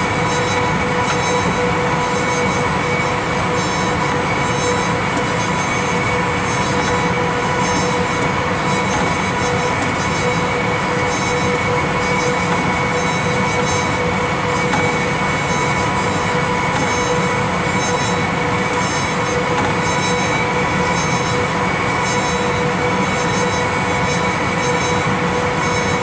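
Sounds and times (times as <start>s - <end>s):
high whine: 0.0s - 26.0s.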